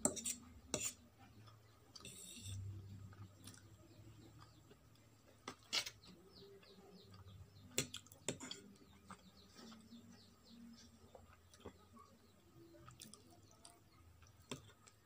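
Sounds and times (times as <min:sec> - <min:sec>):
bird chirping: 0:01.2 - 0:15.0.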